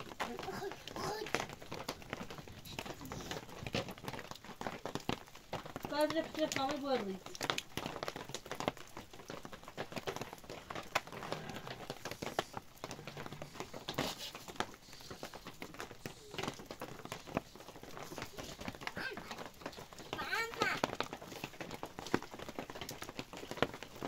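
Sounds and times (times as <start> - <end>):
sleet pattering: 0.0 - 24.0.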